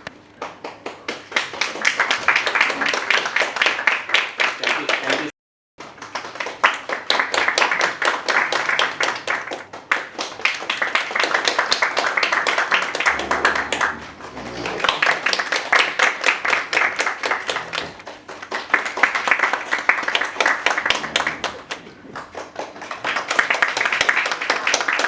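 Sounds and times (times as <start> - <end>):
audience applause: 0.4 - 25.0.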